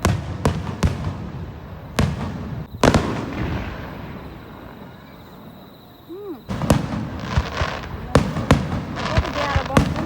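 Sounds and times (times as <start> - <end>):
firework shell booming: 0.0 - 5.3, 6.4 - 10.0.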